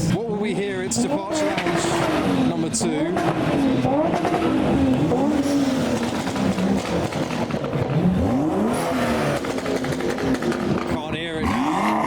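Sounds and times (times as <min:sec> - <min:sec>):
car engine revving: 0:00.5 - 0:12.0.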